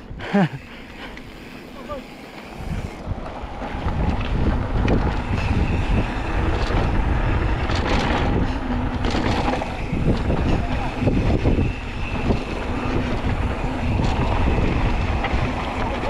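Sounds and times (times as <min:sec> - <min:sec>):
wind buffeting microphone: 0:02.1 - 0:16.0.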